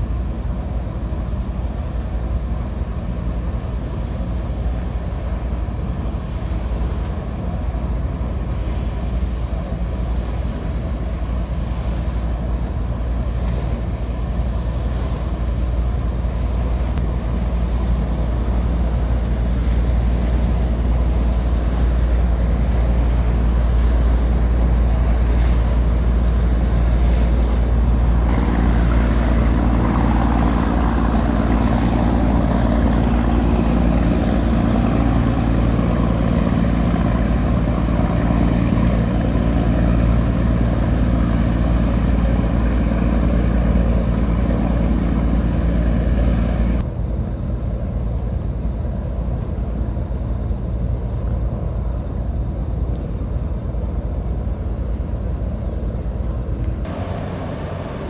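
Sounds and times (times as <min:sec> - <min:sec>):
boat turbines humming: 0:00.0 - 0:58.0
bow wave and wake rushing: 0:00.0 - 0:58.0.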